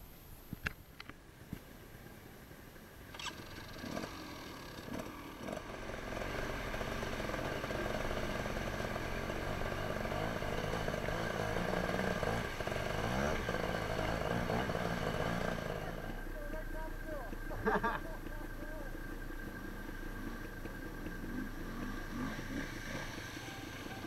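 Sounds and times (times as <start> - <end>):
dirt bike engine: 2.0 - 24.0.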